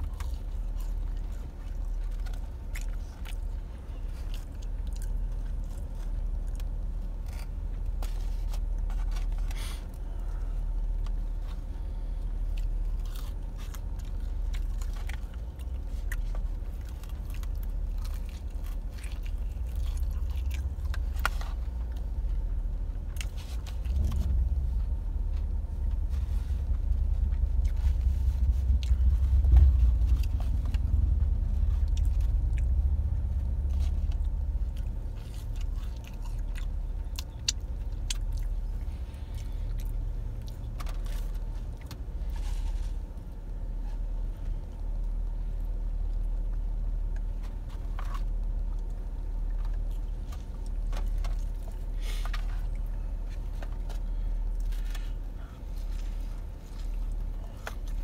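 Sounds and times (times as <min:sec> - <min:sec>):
person chewing crunchy food: 0:00.0 - 0:58.0
vehicle rumble: 0:00.0 - 0:58.0.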